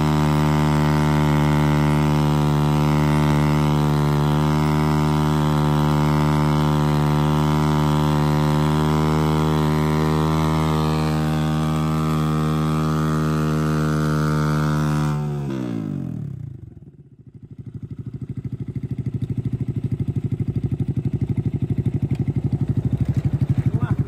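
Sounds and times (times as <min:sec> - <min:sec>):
motorcycle engine at steady revs: 0:00.0 - 0:24.0.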